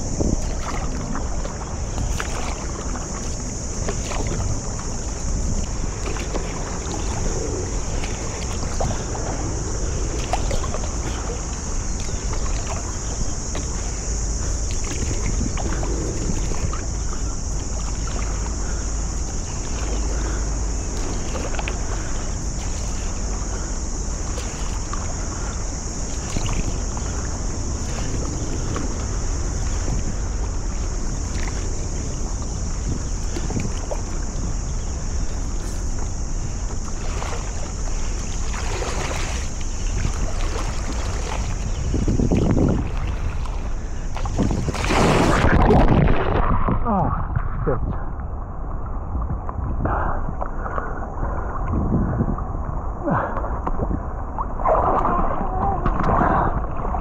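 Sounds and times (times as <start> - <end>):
paddle splashing in water: 0.0 - 46.6, 54.4 - 57.0
wind on microphone: 0.0 - 57.0.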